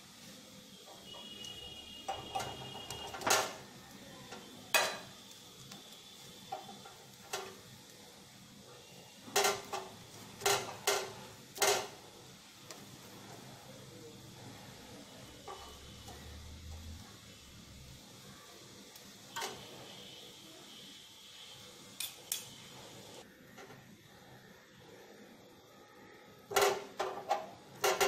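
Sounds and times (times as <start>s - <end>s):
gas burner hissing: 0.0s - 28.0s.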